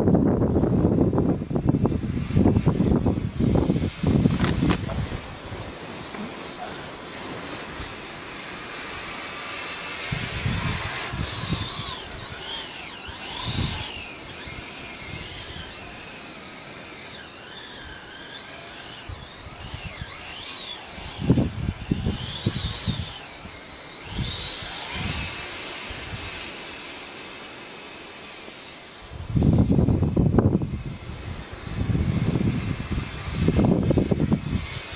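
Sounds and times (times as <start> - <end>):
electric motors whining: 0.1 - 34.9.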